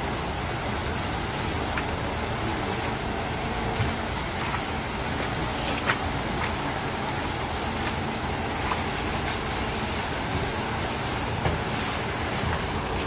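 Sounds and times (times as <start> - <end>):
water sloshing in tub: 0.1 - 13.0.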